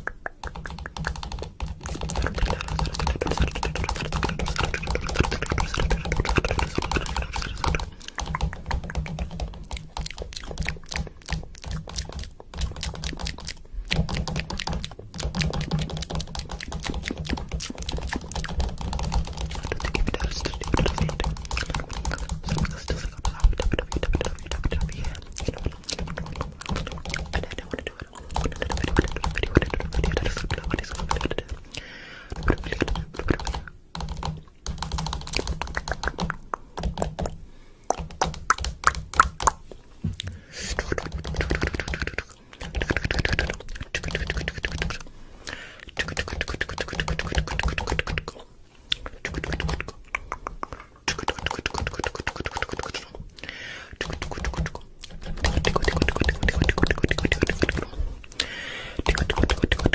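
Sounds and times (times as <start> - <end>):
rapid clicking and tapping: 0.0 - 39.6, 40.7 - 45.0, 45.9 - 48.4, 49.0 - 53.2, 53.9 - 57.9, 59.0 - 59.9.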